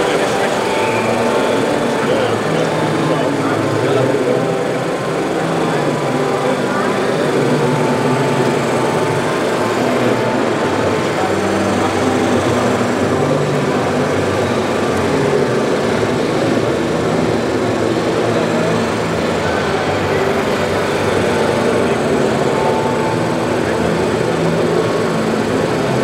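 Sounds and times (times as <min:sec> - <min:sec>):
hydraulic pump humming: 0:00.0 - 0:26.0.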